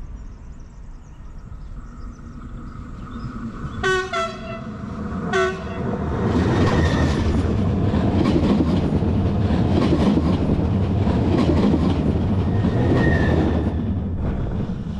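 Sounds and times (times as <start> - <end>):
train rumbling overhead: 0.0 - 14.9.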